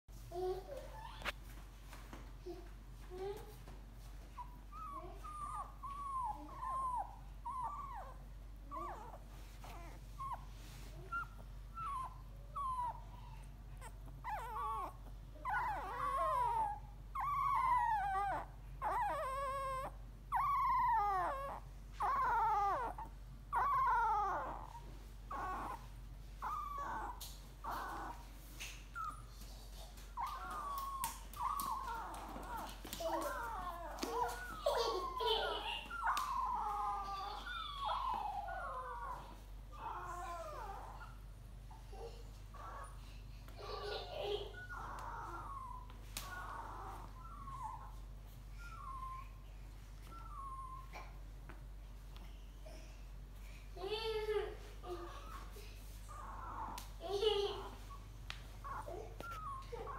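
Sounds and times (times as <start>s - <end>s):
puppies whimpering: 4.4s - 51.6s, 54.8s - 59.9s.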